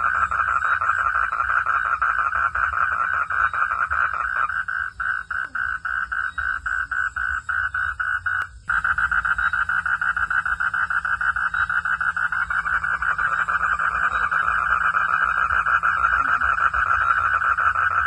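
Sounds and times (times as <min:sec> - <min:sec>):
frog calling in pulses: 0:00.0 - 0:18.0.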